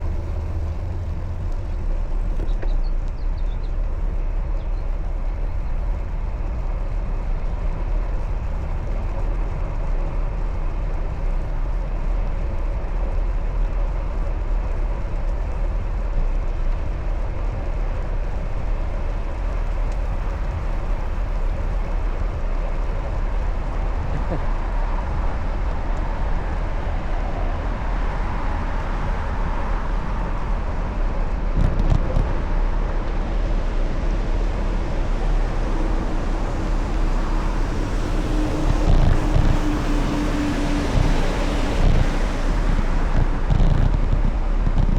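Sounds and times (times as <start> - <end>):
bicycle tyre and road noise: 0.0 - 44.9
wind buffeting microphone: 0.0 - 44.9.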